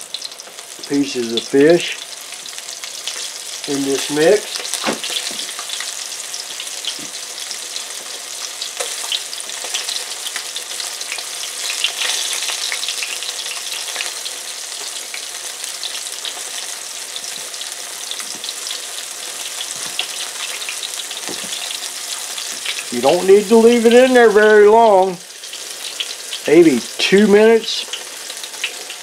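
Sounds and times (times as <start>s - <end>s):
fish frying in hot oil: 0.0s - 29.0s.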